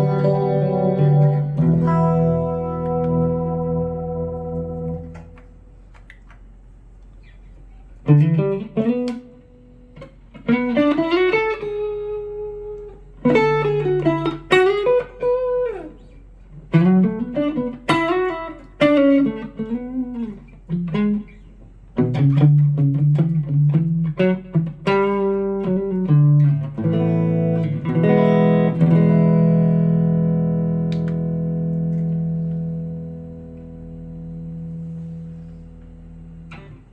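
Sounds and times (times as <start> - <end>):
electric guitar phrases: 0.0 - 36.9.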